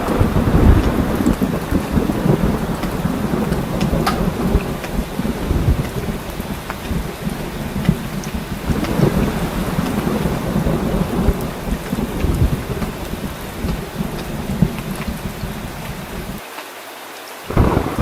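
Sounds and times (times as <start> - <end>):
thunder rumble: 0.0 - 16.4, 17.5 - 18.0
heavy rain: 0.0 - 18.0.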